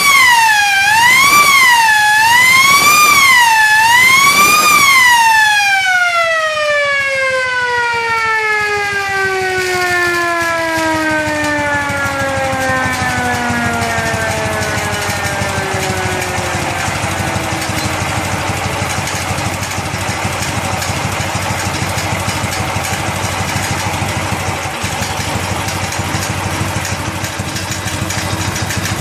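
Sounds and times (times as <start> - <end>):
police siren wailing: 0.0 - 29.0.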